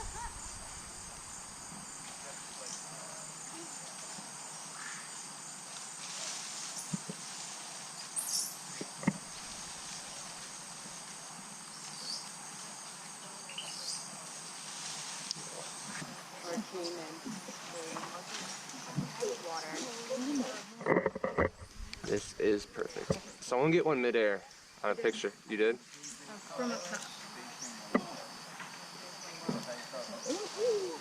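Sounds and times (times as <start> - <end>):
rainforest insects chorus: 0.0 - 31.0.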